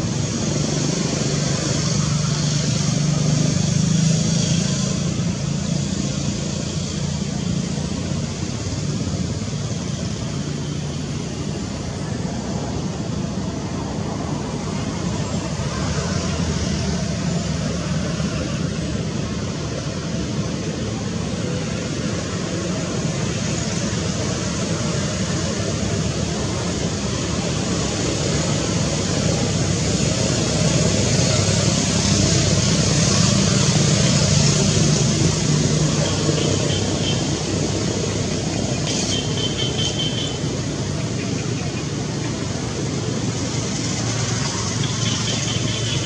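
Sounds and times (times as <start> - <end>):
distant road traffic: 0.0 - 46.0.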